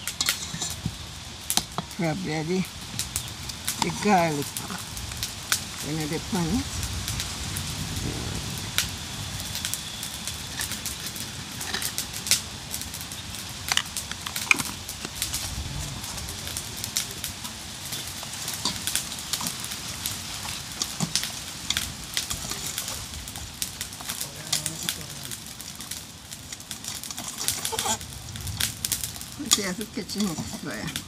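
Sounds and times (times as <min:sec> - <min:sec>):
faint steady hiss: 0:00.0 - 0:31.0
fire pops and crackles: 0:00.0 - 0:31.0.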